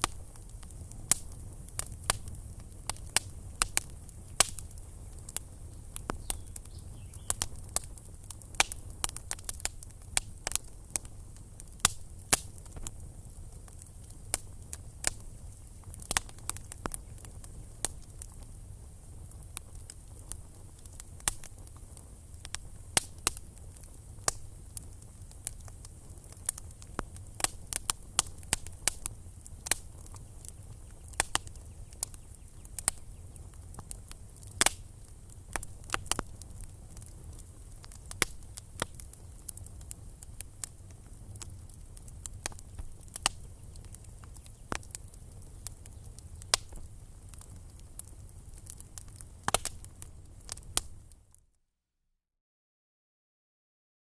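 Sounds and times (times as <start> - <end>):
low rumble of flames: 0.0 - 51.3
campfire crackles and pops: 0.0 - 51.4.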